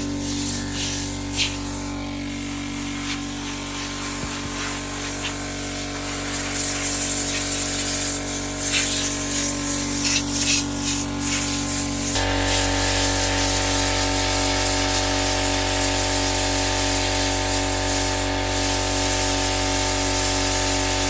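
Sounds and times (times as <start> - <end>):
air compressor hum: 0.0 - 21.0
compressed air hissing: 0.0 - 21.0.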